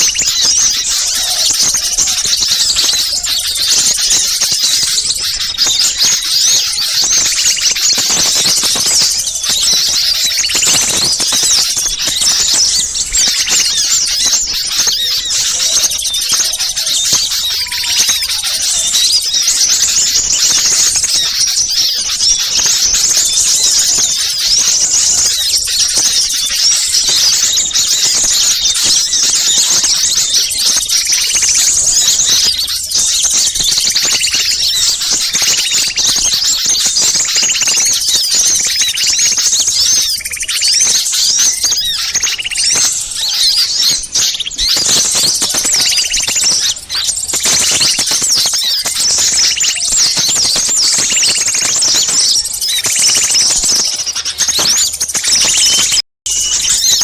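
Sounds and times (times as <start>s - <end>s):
chorus of small birds chirping: 0.0s - 57.0s.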